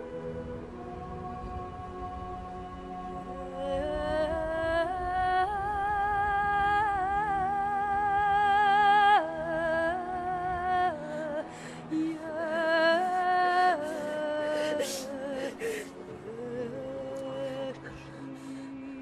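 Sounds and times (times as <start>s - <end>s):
faint low drone: 0.0s - 19.0s.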